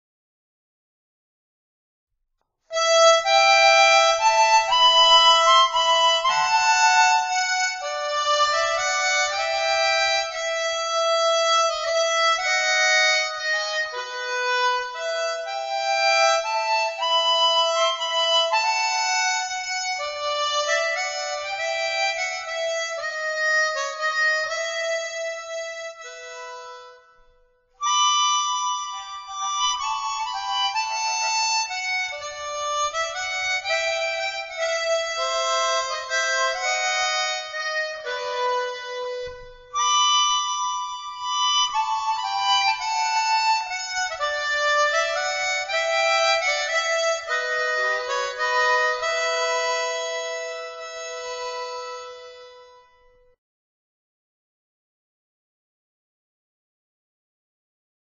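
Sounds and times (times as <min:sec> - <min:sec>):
instrumental solo melody: 0:02.7 - 0:53.3.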